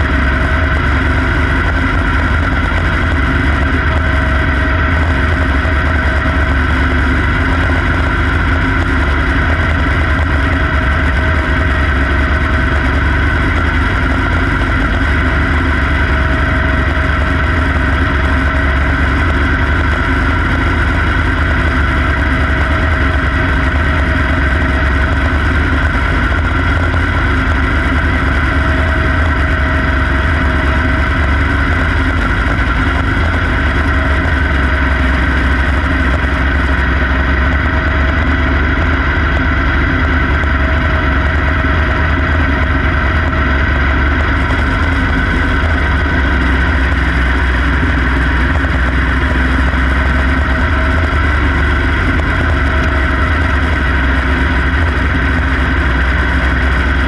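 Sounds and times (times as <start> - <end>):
small race car engine running: 0.0 - 57.0.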